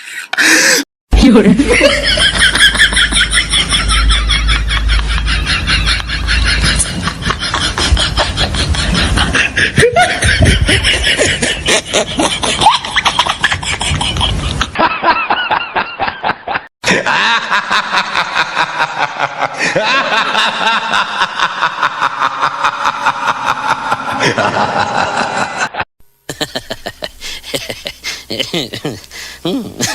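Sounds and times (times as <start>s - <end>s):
recorded laughter bursts: 0.0s - 29.9s.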